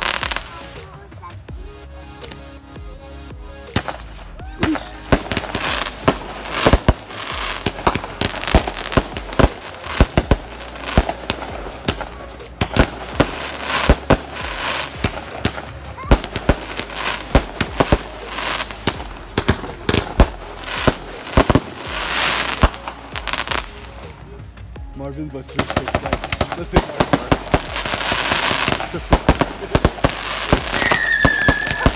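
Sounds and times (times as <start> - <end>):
fireworks crackling: 0.0 - 31.9
fireworks bangs: 3.7 - 23.7, 25.6 - 31.9.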